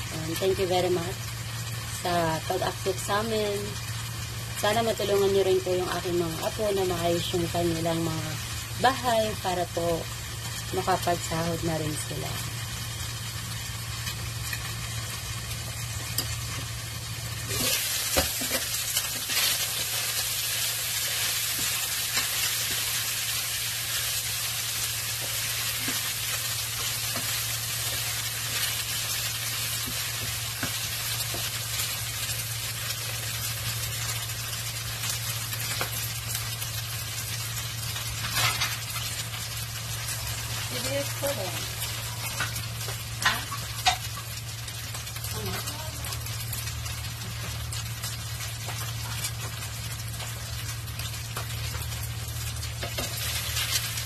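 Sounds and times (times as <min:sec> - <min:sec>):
chicken sizzling in hot oil: 0:00.0 - 0:54.0.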